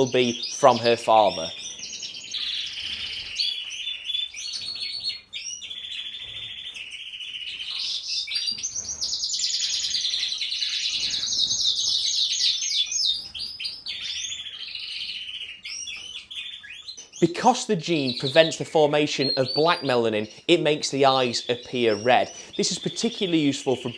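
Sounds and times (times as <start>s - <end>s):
canary singing fast trills: 0.0s - 23.9s.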